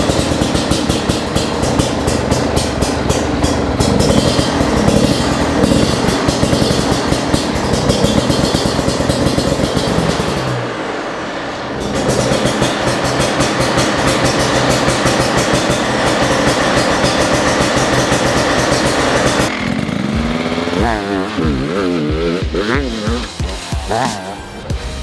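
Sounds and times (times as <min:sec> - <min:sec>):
two-stroke motorcycle engine revving: 0:00.0 - 0:25.0.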